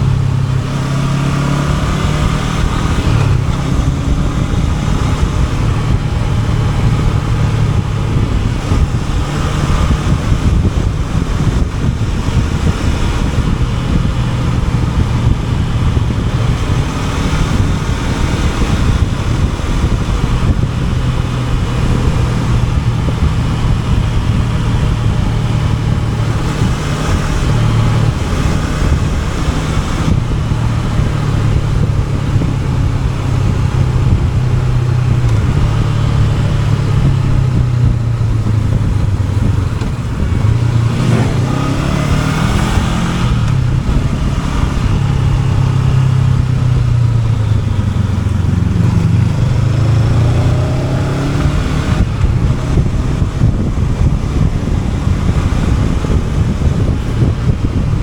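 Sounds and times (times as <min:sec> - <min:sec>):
motorcycle engine running: 0:00.0 - 0:58.0
wind hiss on microphone: 0:02.2 - 0:58.0.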